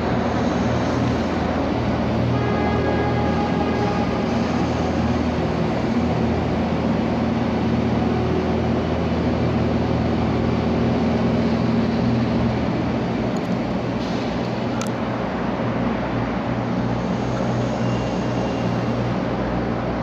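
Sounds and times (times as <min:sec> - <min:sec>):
crane diesel engines droning: 0:00.0 - 0:20.0.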